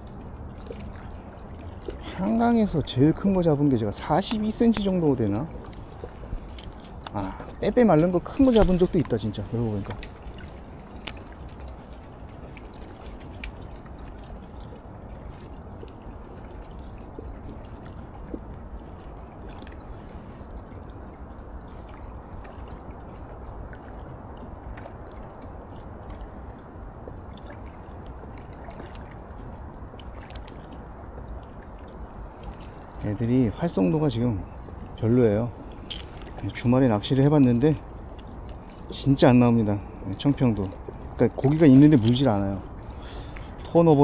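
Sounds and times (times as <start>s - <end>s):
river water lapping on rocks: 0.0s - 44.0s.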